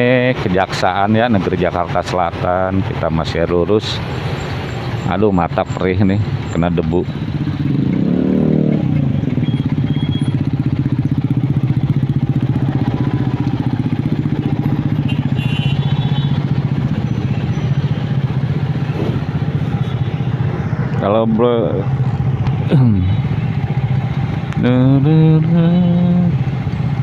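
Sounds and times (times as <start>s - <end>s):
motorcycle engine running: 4.0s - 27.0s.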